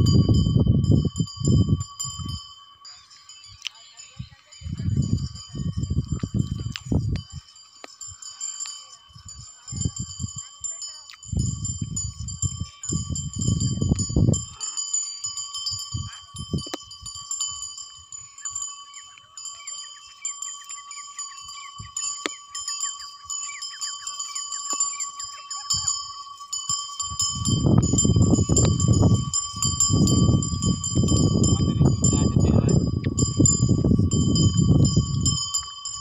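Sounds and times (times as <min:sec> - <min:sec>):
wind gusting on microphone: 0:00.0 - 0:18.7, 0:21.4 - 0:36.0
high-pitched ringing: 0:00.0 - 0:36.0.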